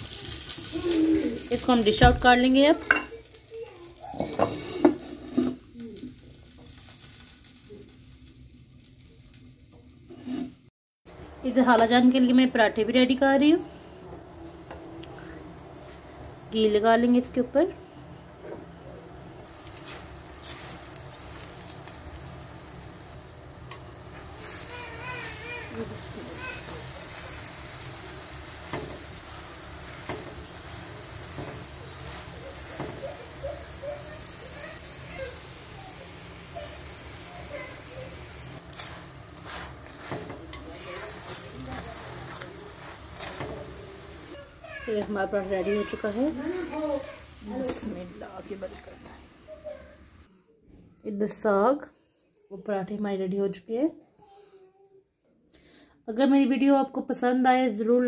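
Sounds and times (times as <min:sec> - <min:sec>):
faint hiss from pot: 0:00.0 - 0:50.3
flatbread sizzling in a pan: 0:00.0 - 0:50.3.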